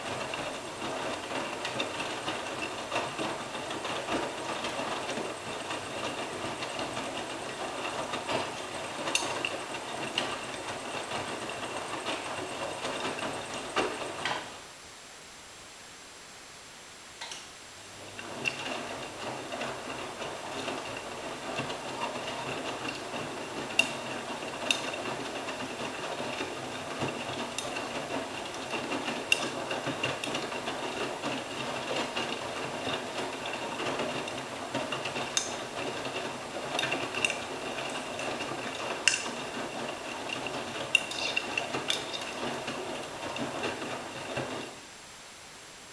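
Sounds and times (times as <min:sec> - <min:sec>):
washing machine drum churning: 0:00.0 - 0:14.6, 0:18.0 - 0:44.8.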